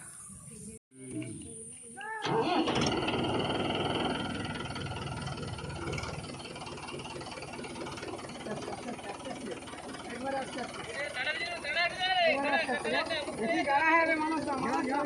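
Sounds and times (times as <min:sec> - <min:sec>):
tractor diesel engine running: 0:02.2 - 0:15.0.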